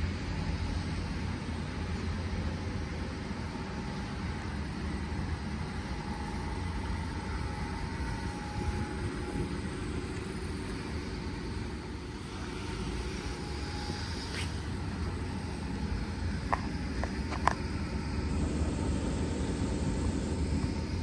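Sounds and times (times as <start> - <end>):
faint steady whine: 0.0 - 21.0
tram low hum and rumble: 0.0 - 21.0.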